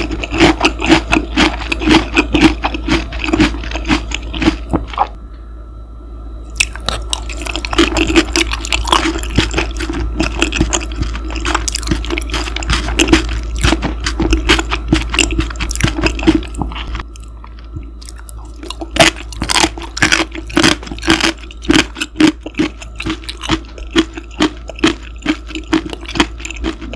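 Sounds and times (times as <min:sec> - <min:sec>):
mouth chewing food: 0:00.0 - 0:05.2, 0:06.6 - 0:26.9
low machine hum with whine: 0:00.0 - 0:26.9.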